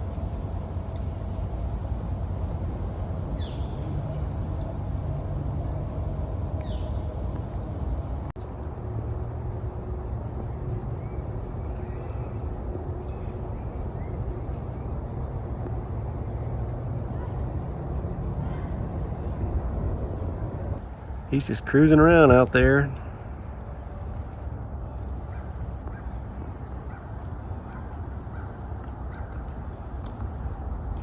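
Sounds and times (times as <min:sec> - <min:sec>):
insect drone: 0:00.0 - 0:31.0.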